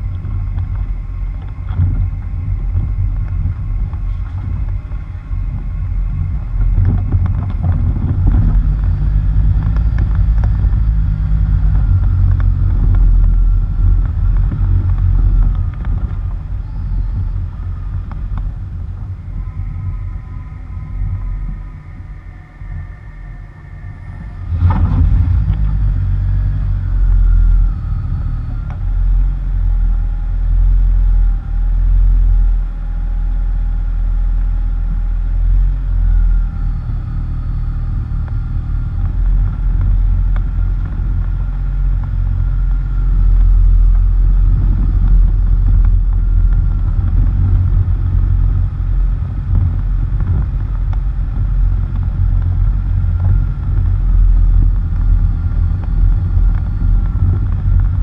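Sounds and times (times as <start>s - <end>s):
tyres on gravel road: 0.0s - 21.2s, 23.5s - 58.0s
wind buffeting microphone: 0.0s - 33.8s, 34.6s - 58.0s
faint wavering whine: 0.0s - 58.0s.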